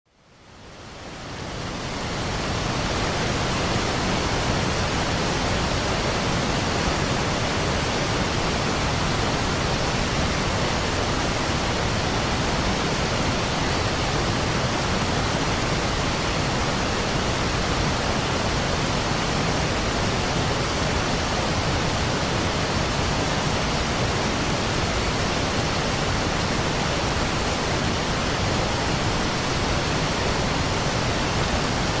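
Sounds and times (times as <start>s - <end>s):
rushing water roar: 0.4s - 32.0s.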